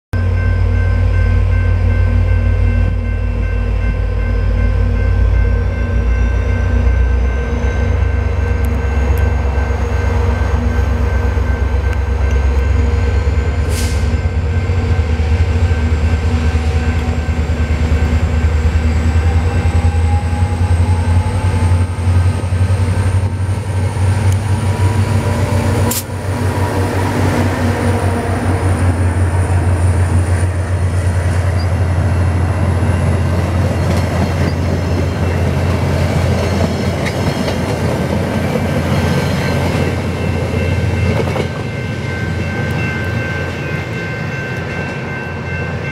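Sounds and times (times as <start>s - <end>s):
diesel locomotive engine drone: 0.1s - 45.9s
train coaches rolling by: 0.2s - 45.9s.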